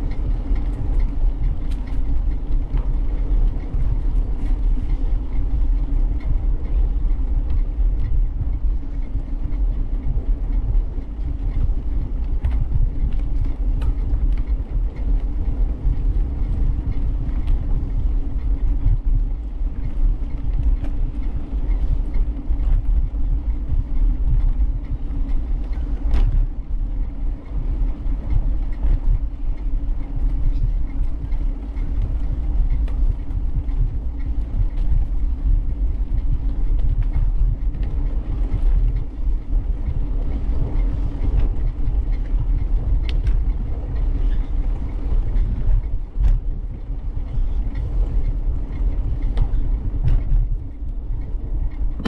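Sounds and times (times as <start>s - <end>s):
bicycle tyre noise on path: 0.0s - 52.0s
wind on microphone: 0.0s - 52.0s.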